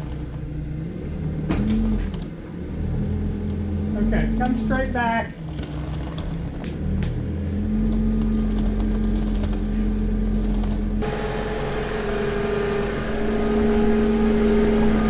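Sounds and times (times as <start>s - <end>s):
higher engine hum: 0.0s - 15.0s
vehicle engine rumbling: 0.0s - 15.0s.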